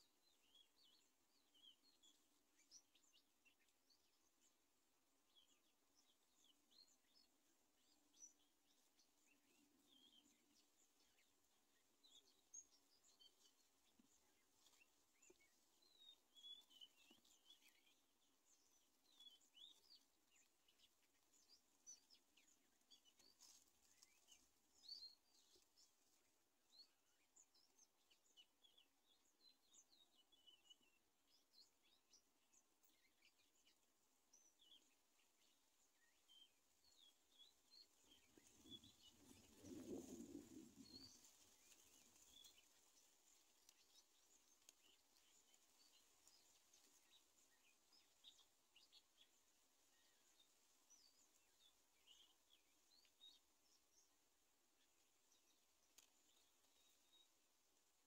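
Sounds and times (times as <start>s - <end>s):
faint bird chirping: 0.0s - 58.0s
low steady hiss: 0.0s - 58.0s.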